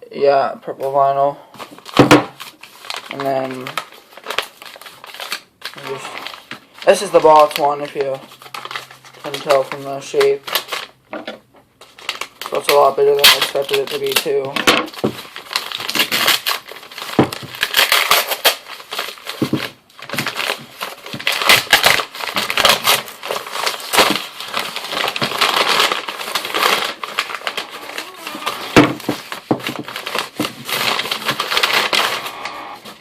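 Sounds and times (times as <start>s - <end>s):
packaging crinkling and tearing: 0.8s - 11.1s, 11.8s - 33.0s.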